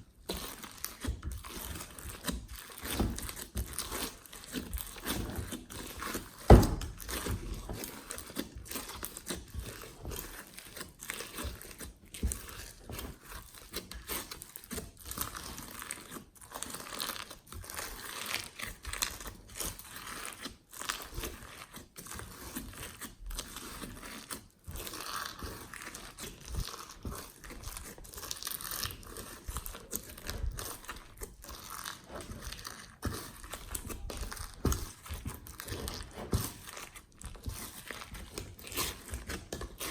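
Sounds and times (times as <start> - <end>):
slime squishing and crackling: 0.0 - 39.9.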